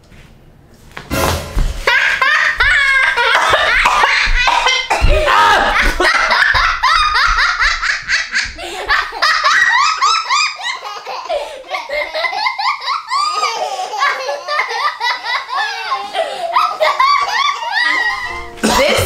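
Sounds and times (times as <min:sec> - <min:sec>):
high-pitched human laughter: 0:01.8 - 0:19.0.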